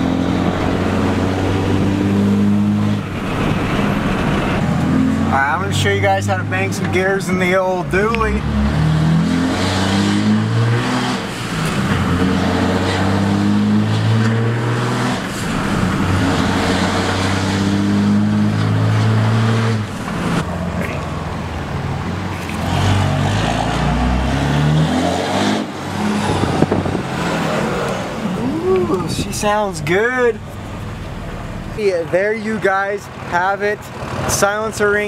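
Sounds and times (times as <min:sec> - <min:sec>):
diesel engine accelerating: 0:00.0 - 0:35.0.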